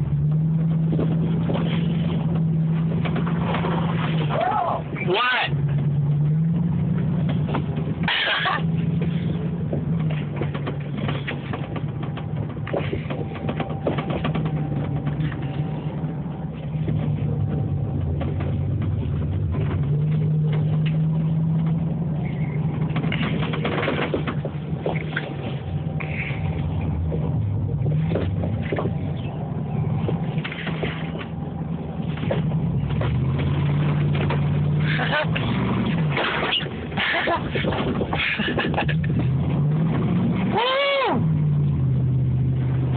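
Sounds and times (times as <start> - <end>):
truck engine revving: 0.0 - 42.9.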